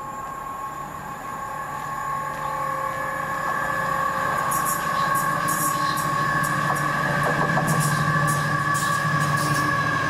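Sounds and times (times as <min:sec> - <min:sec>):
diesel locomotive engine drone: 0:00.0 - 0:10.0
steady high tones: 0:00.0 - 0:10.0.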